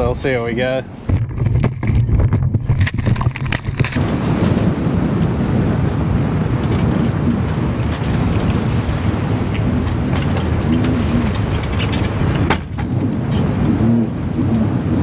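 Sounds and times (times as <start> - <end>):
speedboat engine rumbling: 0.0 - 15.0
wind buffeting microphone: 0.0 - 15.0.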